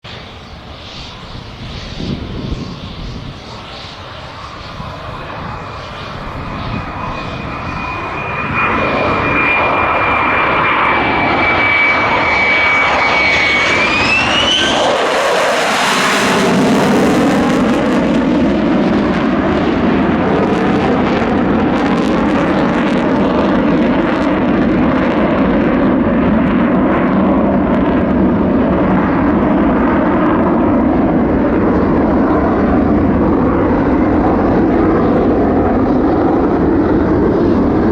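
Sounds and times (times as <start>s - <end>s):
jet engine flypast: 0.0s - 37.9s.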